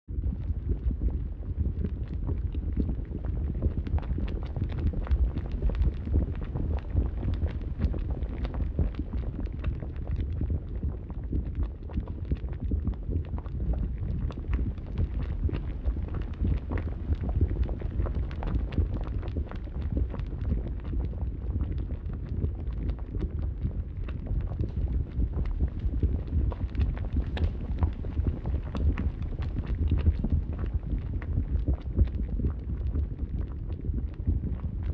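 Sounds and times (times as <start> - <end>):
large fire roaring and crackling: 3.3 - 34.9.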